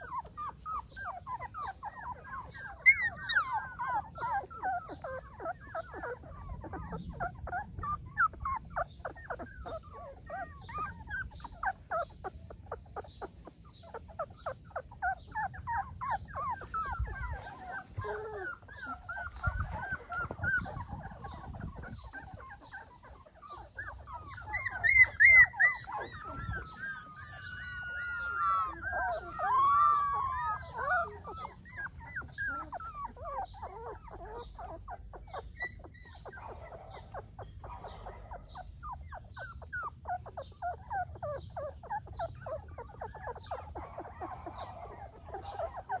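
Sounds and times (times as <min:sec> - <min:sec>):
puppies whimpering and squeaking: 0:00.0 - 0:46.0
puppies whining: 0:00.0 - 0:46.0.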